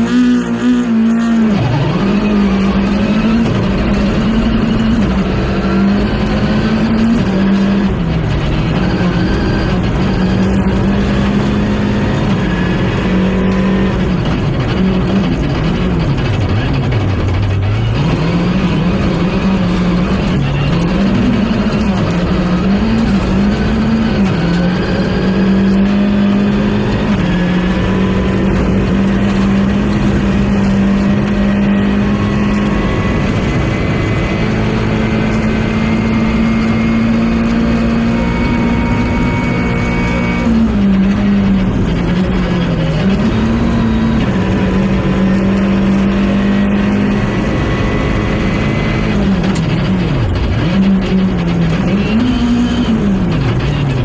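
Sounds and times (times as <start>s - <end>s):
rally car engine at high revs: 0.0s - 54.0s
road and wind noise: 0.0s - 54.0s.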